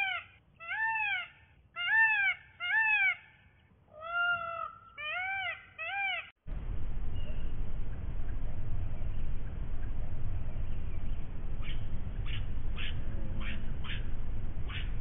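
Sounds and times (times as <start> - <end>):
peacock calling: 0.0 - 6.3, 7.0 - 15.0.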